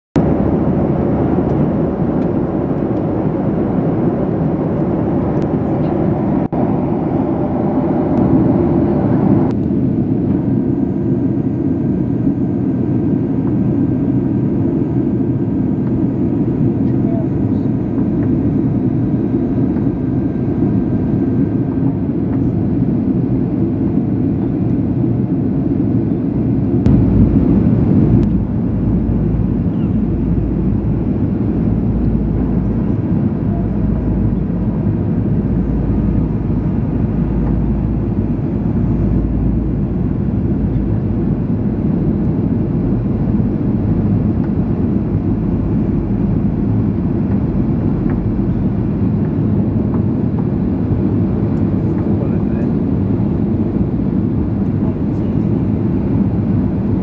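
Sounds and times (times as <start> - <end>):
jet engine cabin rush: 0.2 - 12.4, 13.0 - 57.0.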